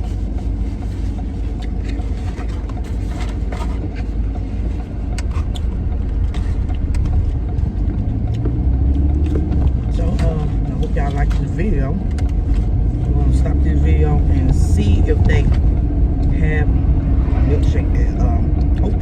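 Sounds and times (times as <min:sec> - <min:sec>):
low rumble of engine and road: 0:00.0 - 0:19.0.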